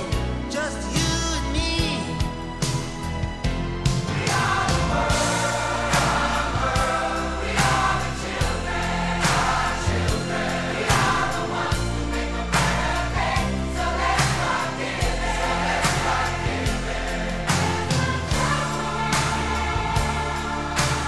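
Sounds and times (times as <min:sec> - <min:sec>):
instrumental pop music with beat: 0:00.0 - 0:21.0.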